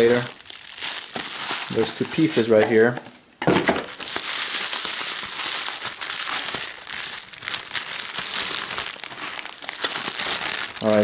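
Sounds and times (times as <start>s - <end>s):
bubble wrap crinkling: 0.0s - 2.6s, 3.8s - 11.0s.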